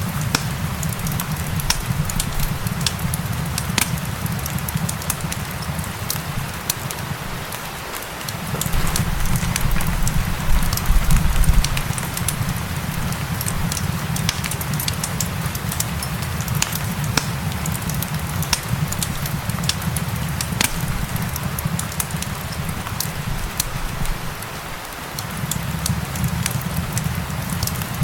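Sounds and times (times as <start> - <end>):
rain hissing: 0.0 - 28.0
wood fire crackling and popping: 0.0 - 28.0.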